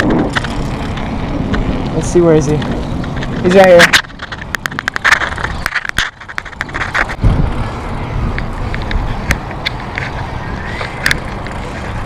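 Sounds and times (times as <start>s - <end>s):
bicycle clicks and rattles: 0.0s - 12.0s
wind rushing on microphone: 0.0s - 12.0s.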